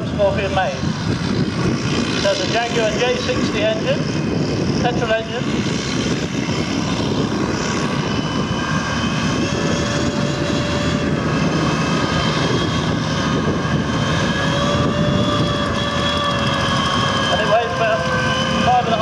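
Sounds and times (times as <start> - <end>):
steady whining tones: 0.0 - 19.0.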